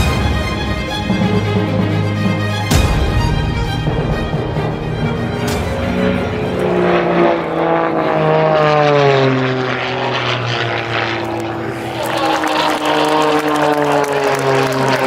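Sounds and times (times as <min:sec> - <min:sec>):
propeller plane engine: 0:00.0 - 0:15.0.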